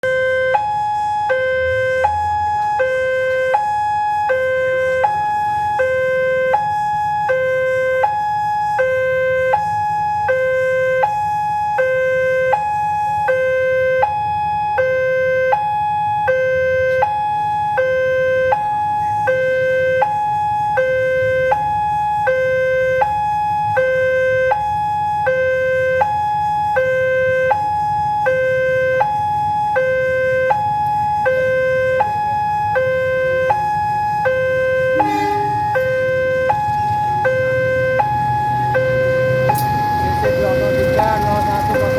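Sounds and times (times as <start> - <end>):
level crossing two-tone alarm: 0.0 - 41.9.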